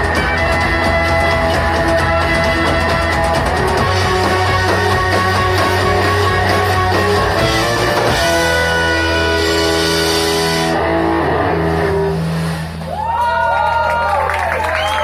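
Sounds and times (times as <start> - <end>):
electric guitar chords: 0.0 - 13.0
heavy bass drone: 0.0 - 13.0
rock band playing loud: 0.0 - 13.8.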